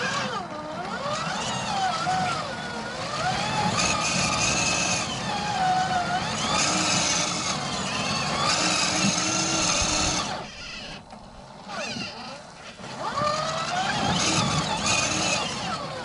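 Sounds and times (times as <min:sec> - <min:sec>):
electric motor whining: 0:00.0 - 0:16.0
tyres scrabbling on mud and rock: 0:03.0 - 0:16.0.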